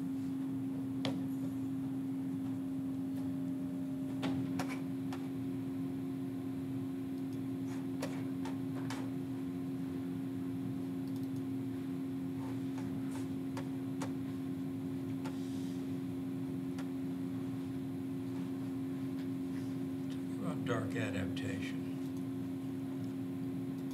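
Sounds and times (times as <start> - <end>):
room hum: 0.0 - 23.9.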